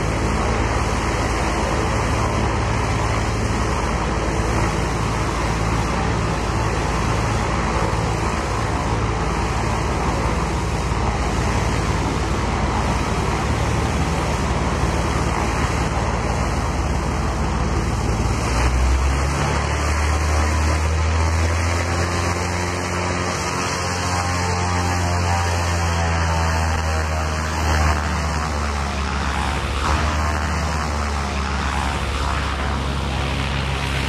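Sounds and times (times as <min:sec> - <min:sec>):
aircraft engine drone: 0:00.0 - 0:34.0.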